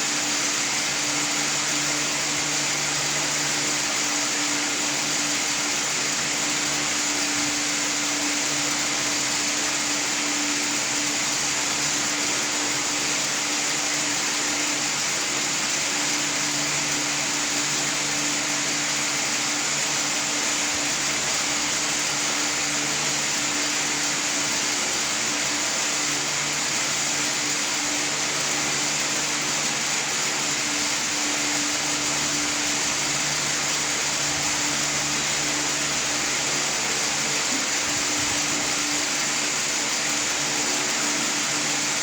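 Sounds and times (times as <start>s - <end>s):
low machine hum: 0.0s - 42.0s
machine hiss: 0.0s - 42.0s.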